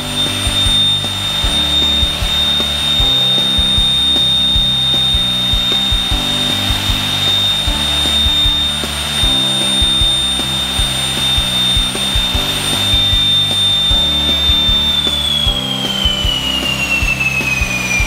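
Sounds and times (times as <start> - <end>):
turboprop compressor whine: 0.0 - 18.0.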